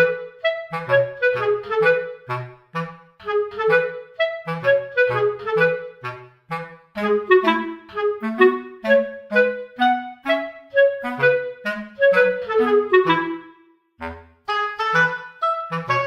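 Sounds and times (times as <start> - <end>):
light instrumental tune: 0.0 - 16.0.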